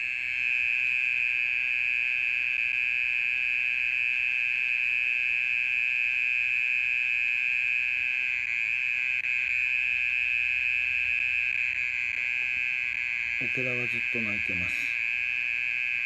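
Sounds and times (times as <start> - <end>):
mole cricket trilling: 0.0 - 16.0.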